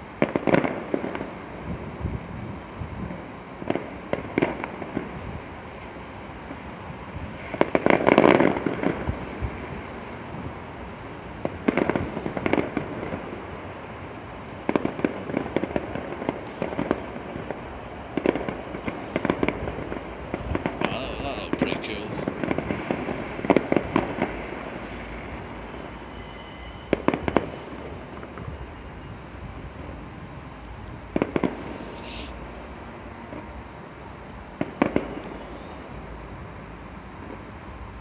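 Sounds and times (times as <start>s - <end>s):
distant fireworks bangs and crackles: 0.0s - 38.0s.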